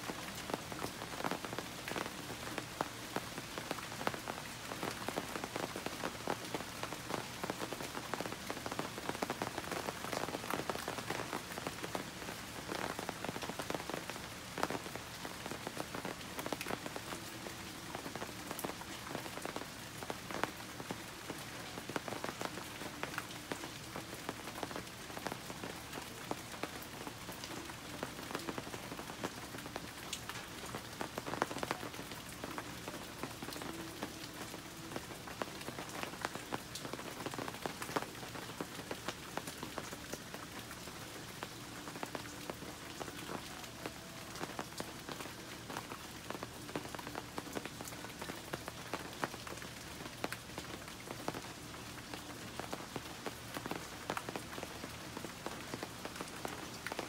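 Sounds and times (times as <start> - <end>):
sharp ticks of raindrops: 0.0 - 57.0
steady rain falling: 0.0 - 57.0.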